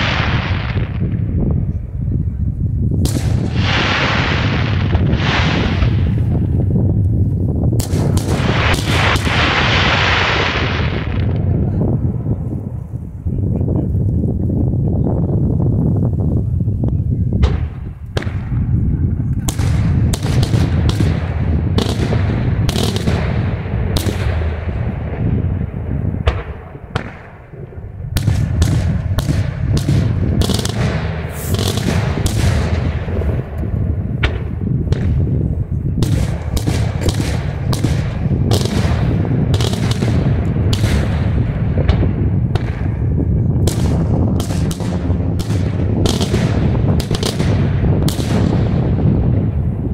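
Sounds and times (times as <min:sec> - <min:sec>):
fireworks bursting with sharp bangs: 0:00.0 - 0:02.3, 0:02.9 - 0:13.9, 0:17.3 - 0:49.9.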